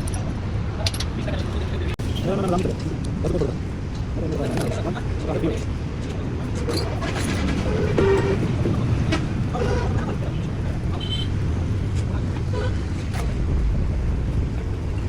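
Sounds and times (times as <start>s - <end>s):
distant voices: 0.0s - 15.0s
low rumble of traffic: 0.0s - 15.0s.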